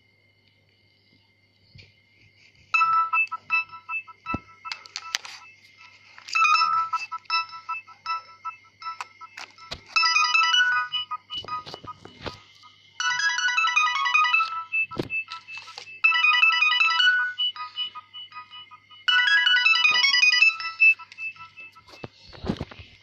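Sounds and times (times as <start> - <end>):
electronic ringtone melody: 2.7 - 22.4.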